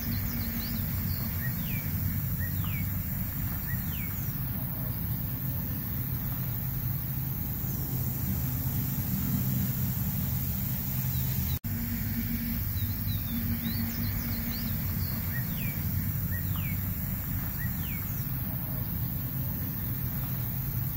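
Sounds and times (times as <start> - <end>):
birds whistling and chirping: 0.0 - 11.6, 12.5 - 20.9
steady low rumble: 0.0 - 20.9.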